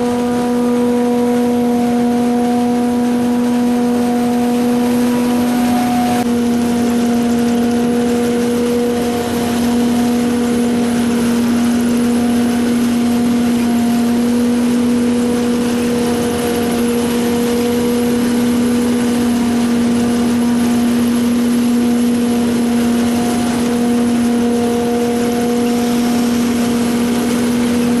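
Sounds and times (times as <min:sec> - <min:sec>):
harvester machine hum: 0:00.0 - 0:28.0
rushing mechanical noise: 0:00.0 - 0:28.0.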